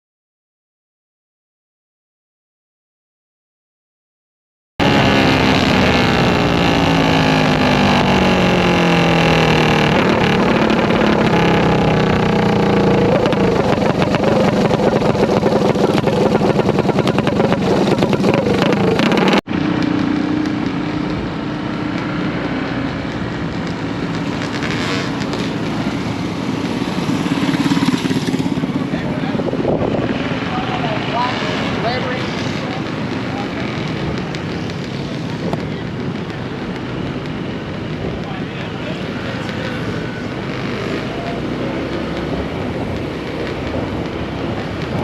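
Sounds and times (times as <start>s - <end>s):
minibike engines running hard: 4.8s - 45.0s.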